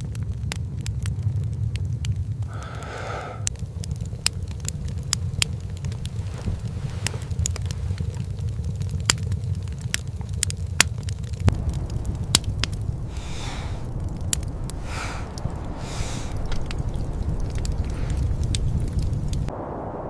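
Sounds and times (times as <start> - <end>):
fire hissing: 0.0 - 19.8
campfire crackling and popping: 0.0 - 20.0
low rumble: 0.0 - 20.0.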